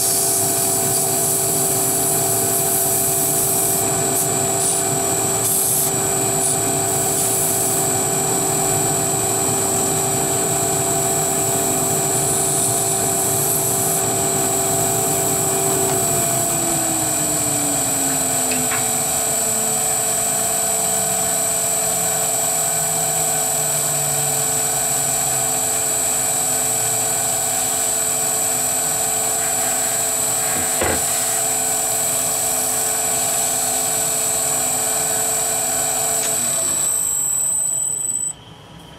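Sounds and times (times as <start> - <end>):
wood lathe motor whine: 0.0 - 38.4
constant machine drone: 0.0 - 38.9.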